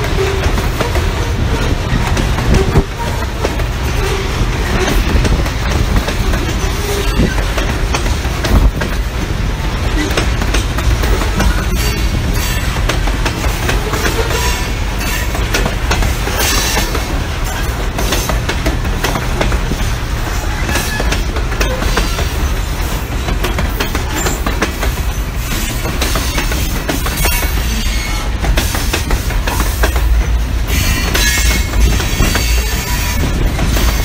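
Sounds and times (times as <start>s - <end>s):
freight train wheels rumbling: 0.0s - 34.0s
wheels clanking over rail joints: 0.0s - 34.0s.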